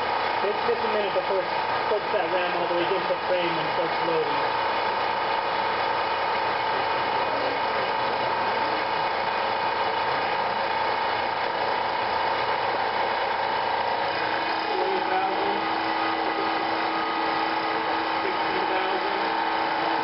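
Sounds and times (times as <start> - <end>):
hydraulic pump whine: 0.0 - 20.0.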